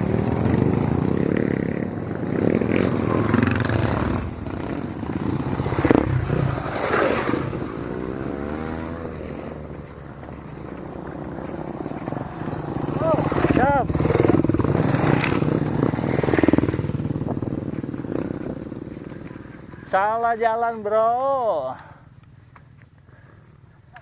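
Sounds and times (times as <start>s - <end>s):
motorcycle engine revving: 0.0s - 24.0s
motorcycle rattling and scraping: 0.0s - 24.0s.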